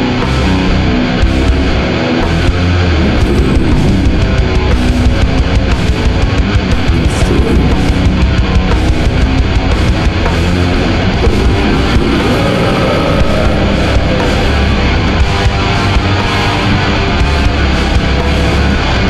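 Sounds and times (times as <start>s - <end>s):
distorted electric guitars: 0.0s - 19.0s
drum kit playing: 0.0s - 19.0s.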